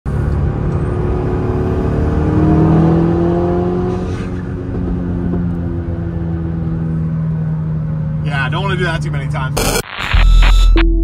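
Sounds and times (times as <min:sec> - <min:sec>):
car engine running steadily: 0:00.1 - 0:09.8.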